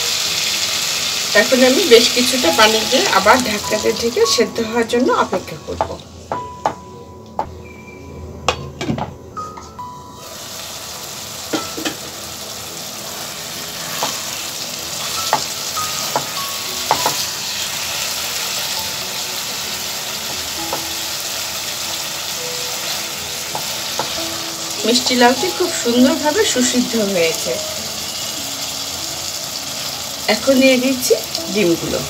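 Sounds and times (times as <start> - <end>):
curry sizzling in metal pan: 0.0 - 6.4, 10.1 - 32.0.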